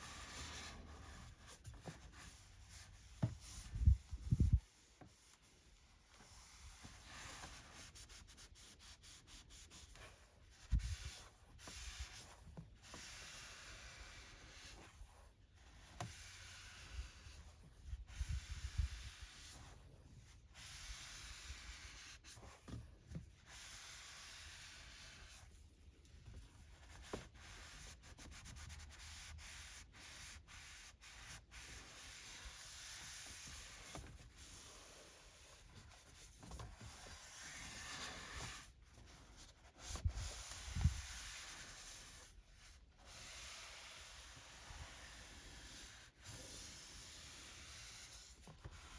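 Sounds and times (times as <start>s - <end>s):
cloth wiping surfaces: 0.0s - 48.9s.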